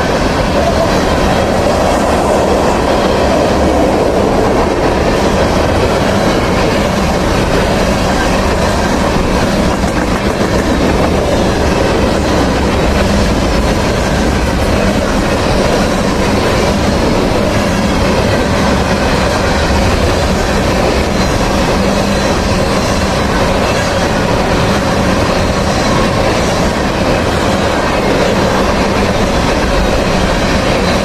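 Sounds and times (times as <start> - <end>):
steel train wheels on rails: 0.0 - 31.0.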